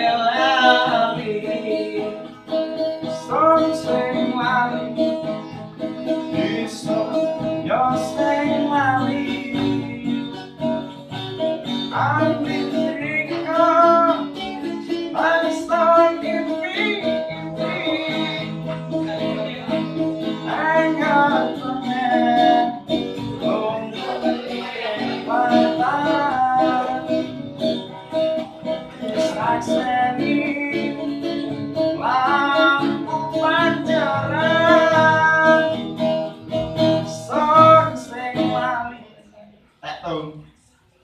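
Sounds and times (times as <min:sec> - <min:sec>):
plucked string instrument: 0:00.0 - 0:39.1
person singing: 0:00.0 - 0:39.2.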